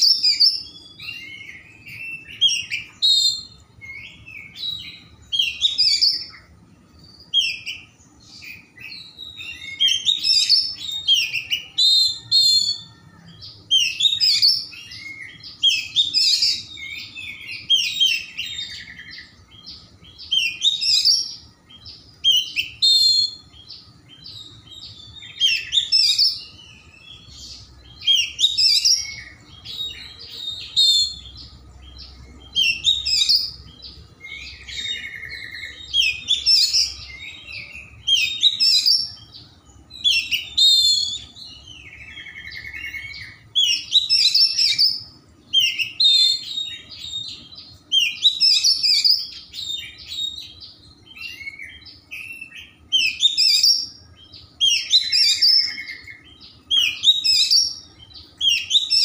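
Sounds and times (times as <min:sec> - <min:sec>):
bird singing whistled phrases: 0:00.0 - 0:59.0.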